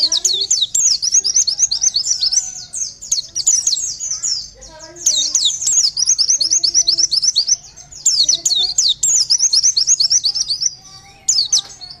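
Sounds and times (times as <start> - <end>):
white-eye bird twittering song: 0.0 - 12.0.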